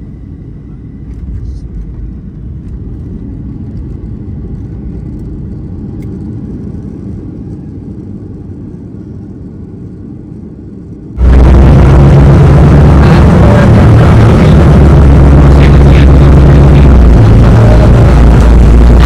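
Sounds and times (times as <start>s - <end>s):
airliner cabin rumble: 0.0s - 19.0s
low hum: 0.0s - 19.0s.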